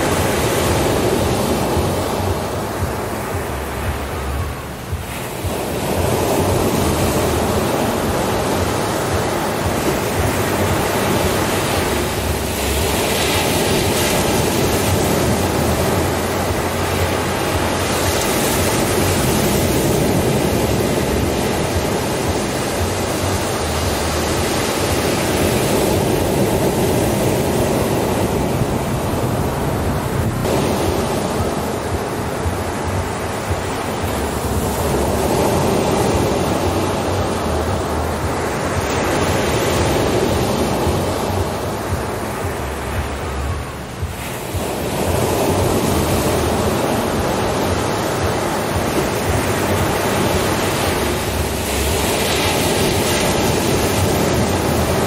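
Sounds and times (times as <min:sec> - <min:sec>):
ocean surf on a beach: 0:00.0 - 0:55.0.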